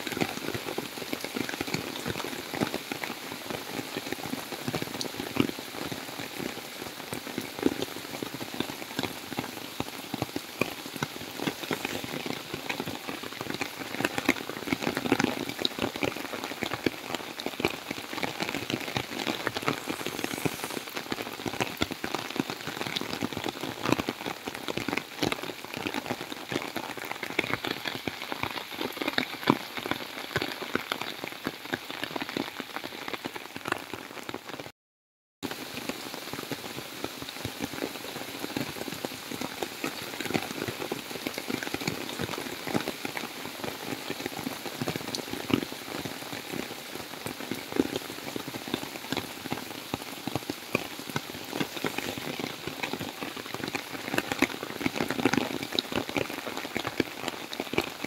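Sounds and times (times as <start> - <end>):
heavy rain falling: 0.0 - 34.6, 35.5 - 58.0.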